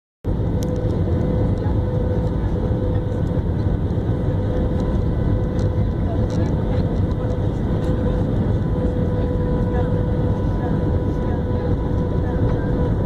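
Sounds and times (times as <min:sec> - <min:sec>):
aircraft engine rumble: 0:00.2 - 0:13.0.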